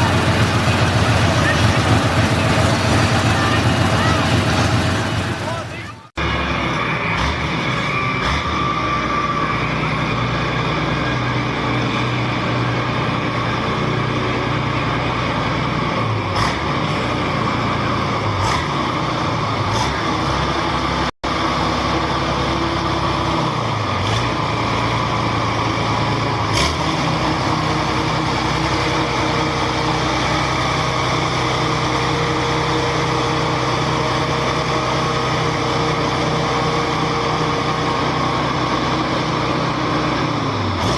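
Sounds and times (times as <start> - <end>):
large vehicle engine running: 0.0 - 40.9.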